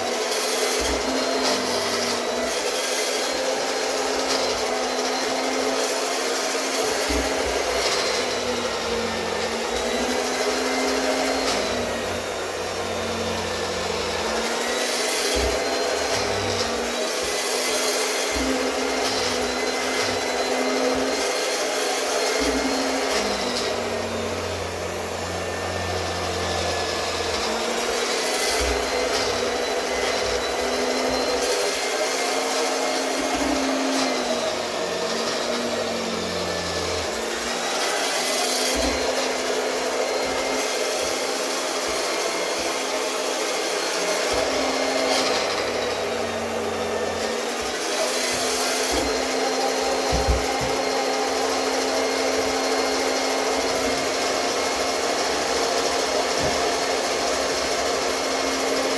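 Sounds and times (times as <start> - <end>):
cloth cutting machine whining: 0.0 - 58.9.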